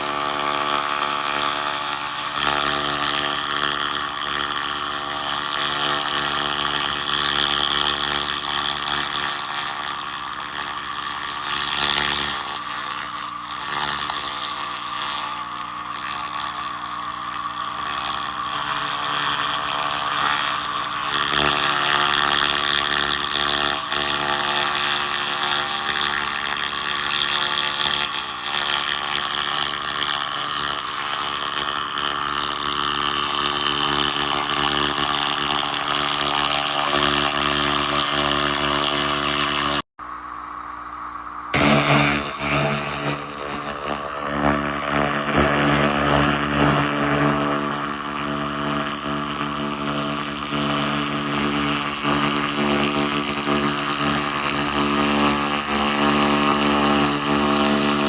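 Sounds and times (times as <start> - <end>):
laser rust remover humming: 0.0 - 58.0.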